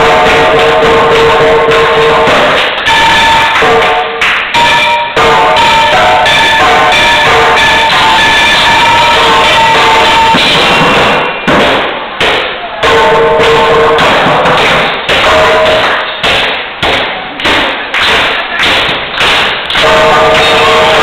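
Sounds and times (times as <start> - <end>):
pots and pans drummed: 0.0 - 21.0.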